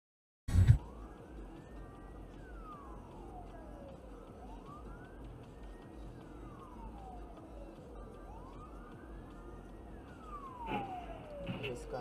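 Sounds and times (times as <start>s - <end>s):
emergency vehicle siren wailing: 0.8s - 12.0s.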